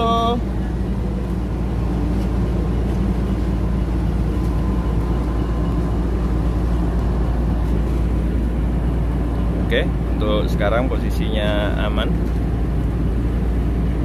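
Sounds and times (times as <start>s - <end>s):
faint steady whine: 0.0s - 14.0s
ship diesel engine droning: 0.0s - 14.0s.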